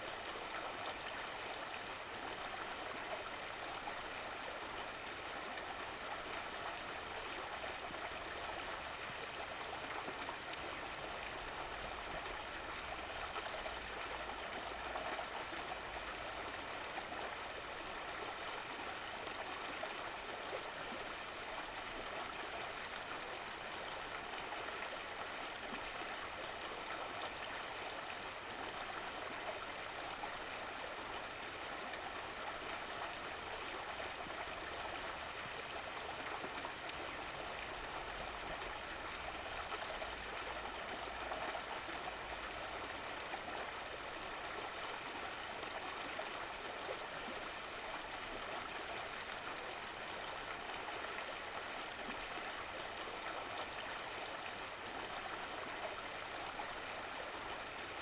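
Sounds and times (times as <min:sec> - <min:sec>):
stream water gurgling: 0:00.0 - 0:58.0.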